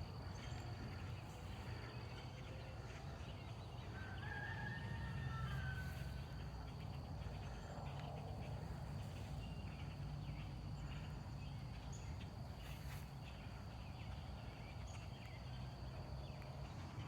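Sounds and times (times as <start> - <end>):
low wind-like rumble: 0.0 - 17.0.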